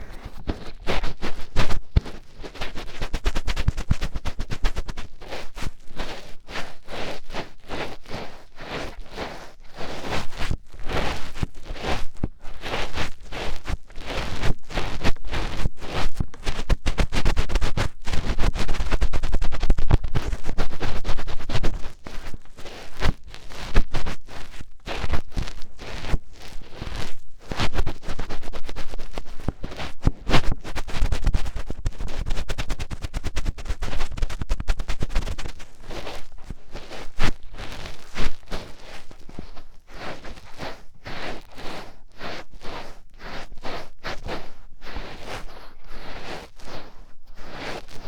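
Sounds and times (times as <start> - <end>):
fingertip scratching microphone: 0.0 - 48.0.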